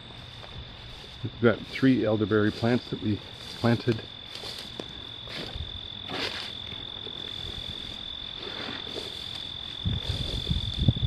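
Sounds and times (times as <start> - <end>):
crickets trilling: 0.0 - 11.0
soft rustles: 0.3 - 11.0.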